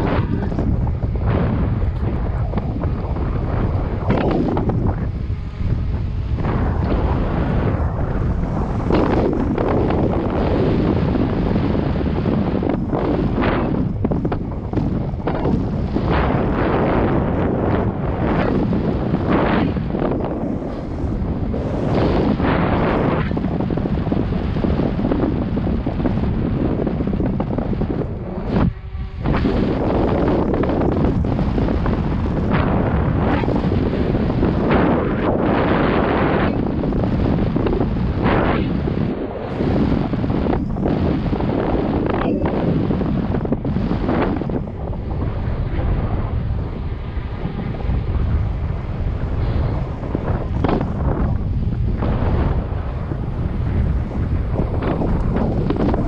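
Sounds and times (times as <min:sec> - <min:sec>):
bike tyres rumbling: 0:00.0 - 0:56.0
wind buffeting microphone: 0:00.0 - 0:56.0.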